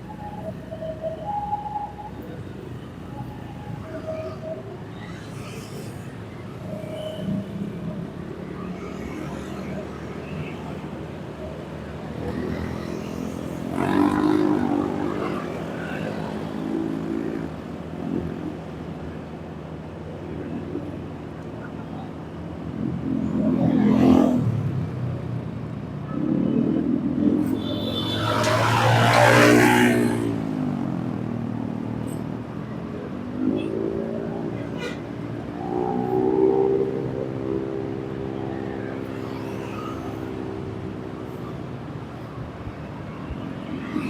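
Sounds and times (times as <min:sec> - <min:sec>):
traffic engines running: 0:00.0 - 0:44.0.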